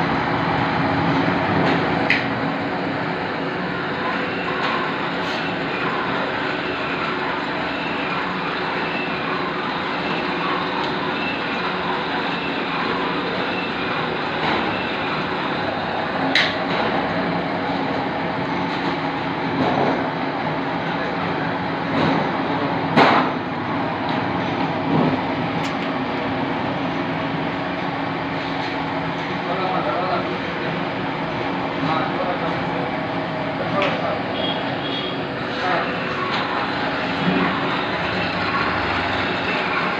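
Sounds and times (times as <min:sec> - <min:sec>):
machinery humming: 0:00.0 - 0:39.9.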